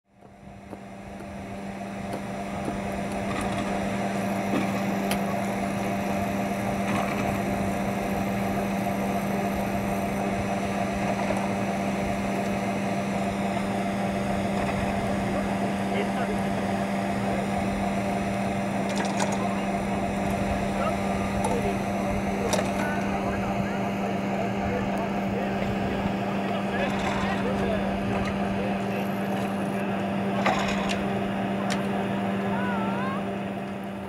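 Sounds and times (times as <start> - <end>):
ski lift machinery hum: 0.1 - 34.0.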